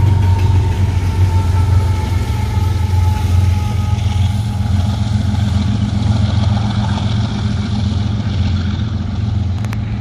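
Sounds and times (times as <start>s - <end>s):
locomotive engine drone: 0.0s - 10.0s
train wheels on rails: 0.0s - 10.0s.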